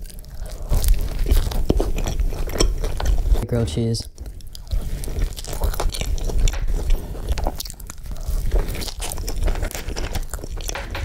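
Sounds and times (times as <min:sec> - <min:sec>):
person chewing a burger: 0:00.0 - 0:10.8.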